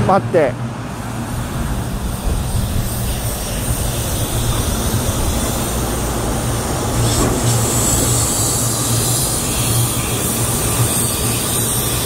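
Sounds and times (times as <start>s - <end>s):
electric train passing slowly: 0.0s - 12.0s.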